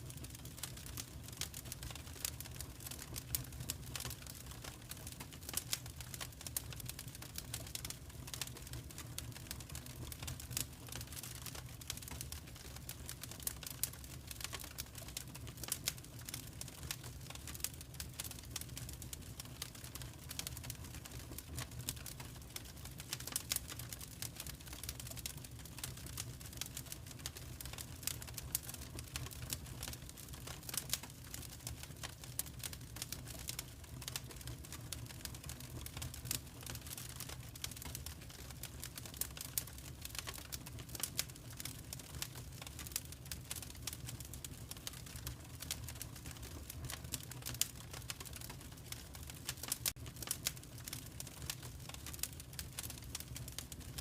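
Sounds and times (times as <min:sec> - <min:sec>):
low rumble of burning: 0:00.0 - 0:54.0
wood fire popping and snapping: 0:00.0 - 0:54.0.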